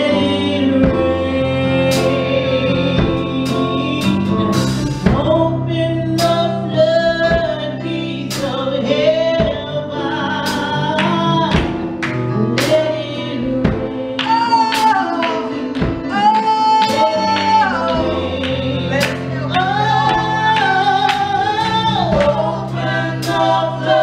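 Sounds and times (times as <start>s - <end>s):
bass: 0.0s - 24.0s
group singing gospel song: 0.0s - 24.0s
keyboard notes: 0.0s - 24.0s.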